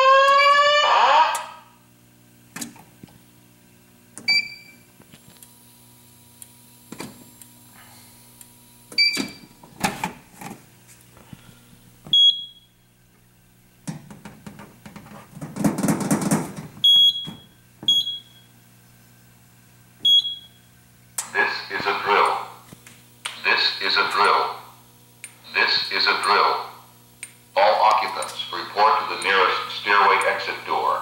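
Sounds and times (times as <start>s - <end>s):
steady low hum: 0.9s - 31.0s.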